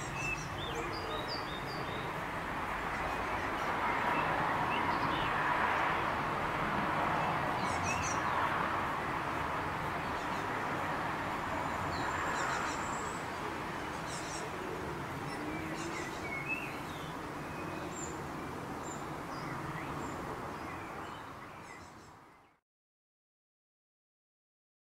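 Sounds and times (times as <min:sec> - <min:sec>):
songbirds chirping: 0:00.0 - 0:22.6.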